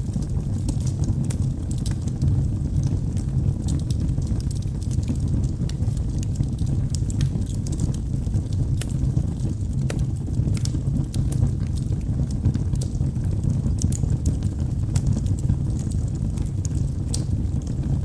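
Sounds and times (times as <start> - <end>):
wood logs burning in fireplace: 0.0 - 18.0.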